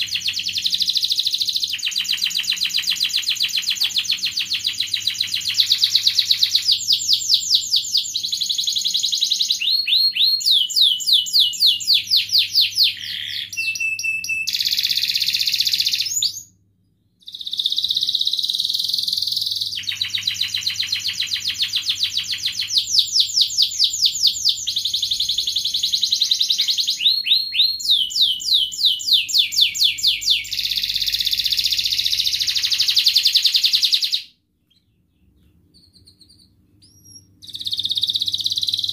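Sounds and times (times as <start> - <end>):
canary singing trills: 0.0 - 16.6, 17.2 - 38.9.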